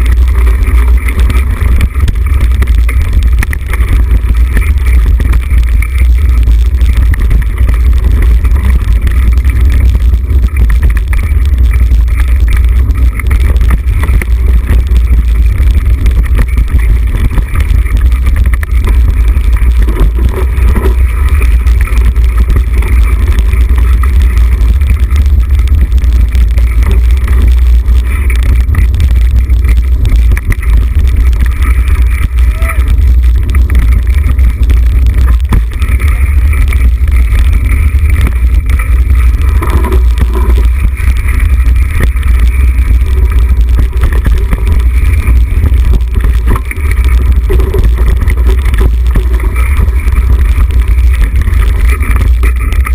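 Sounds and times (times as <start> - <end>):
bike rolling over dirt trail: 0.0 - 52.9
wind buffeting microphone: 0.0 - 52.9.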